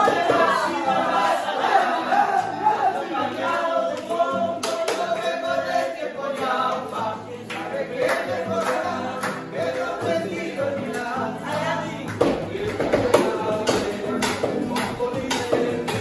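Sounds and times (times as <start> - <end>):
acoustic guitar: 0.0 - 16.0
voices singing together: 0.0 - 16.0.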